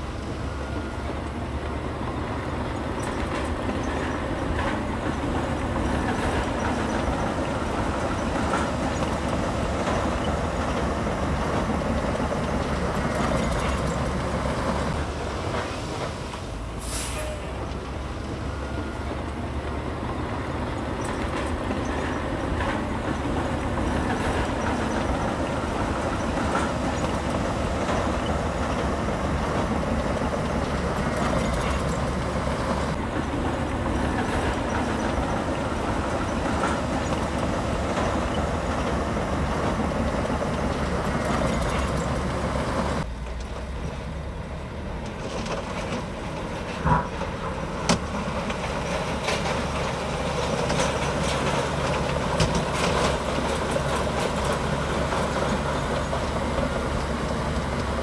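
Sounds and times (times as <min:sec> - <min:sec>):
bulldozer diesel engine clattering: 0:00.0 - 0:58.0.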